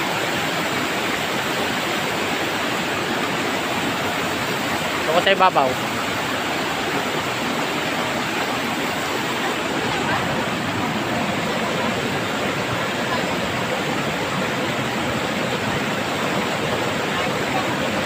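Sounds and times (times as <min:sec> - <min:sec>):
water cascading over rocks: 0:00.0 - 0:18.0.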